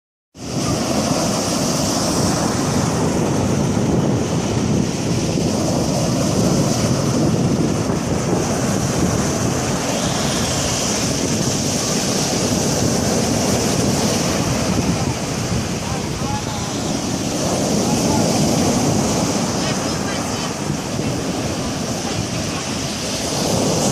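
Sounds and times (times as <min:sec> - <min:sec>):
strong wind on microphone: 0:00.4 - 0:23.9
surf and waves: 0:00.4 - 0:23.9.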